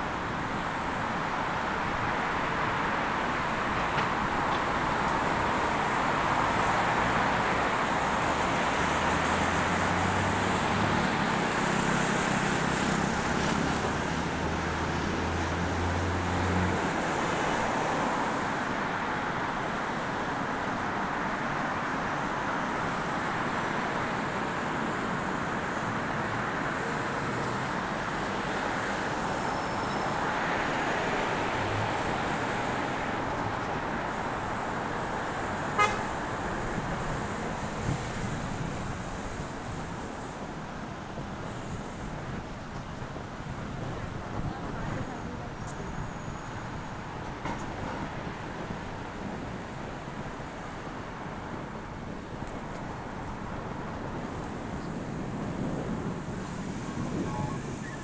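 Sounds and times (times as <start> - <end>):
passing cars and tyre noise: 0.0 - 58.0.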